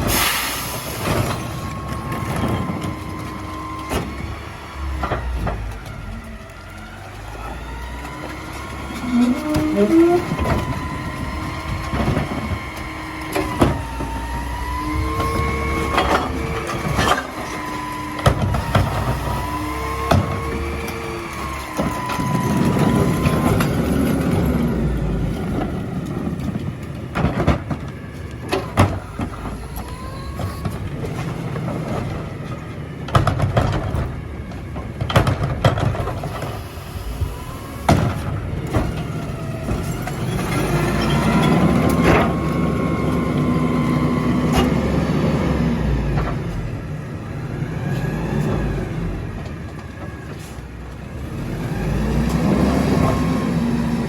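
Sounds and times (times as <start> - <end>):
garbage truck running: 0.0 - 54.0
hydraulics whining: 0.0 - 54.0.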